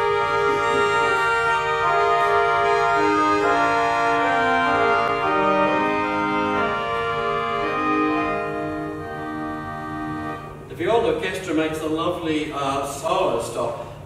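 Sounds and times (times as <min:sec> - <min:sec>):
pipe organ sustained chords: 0:00.0 - 0:14.0.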